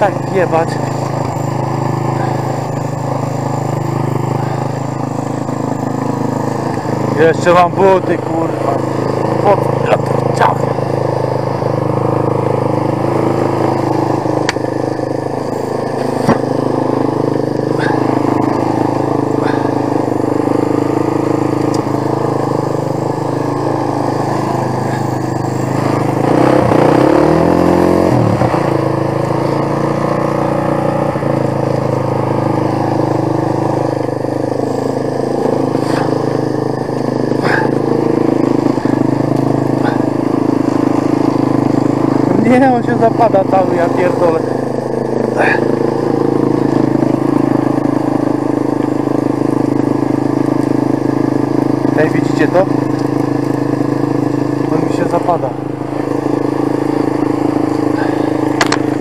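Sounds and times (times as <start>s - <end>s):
quad bike engine idling: 0.0s - 59.0s.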